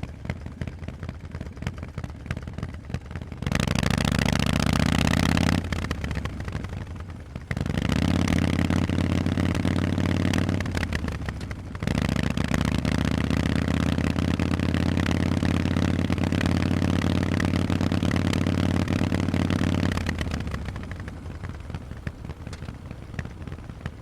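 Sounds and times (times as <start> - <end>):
motorcycle engine burbling and revving: 0.0 - 24.0.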